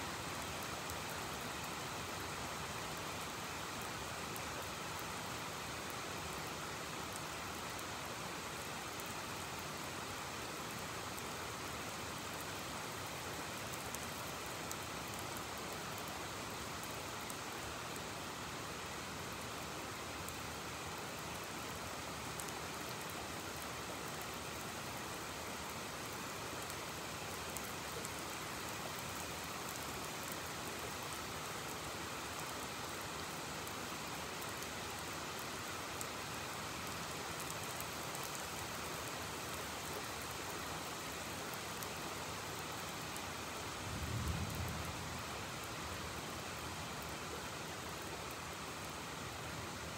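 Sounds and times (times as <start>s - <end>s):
heavy rain: 0.0s - 49.9s.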